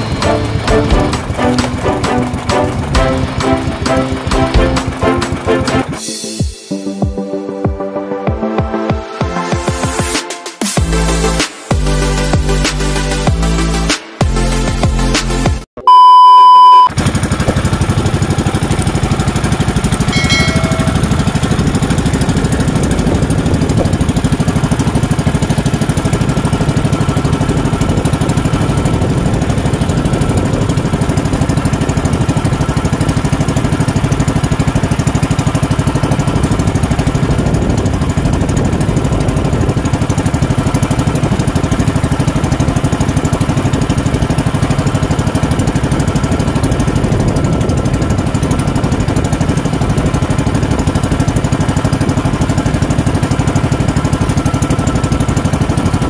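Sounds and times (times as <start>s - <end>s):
boat engine chugging: 0.0s - 6.1s, 16.9s - 56.0s.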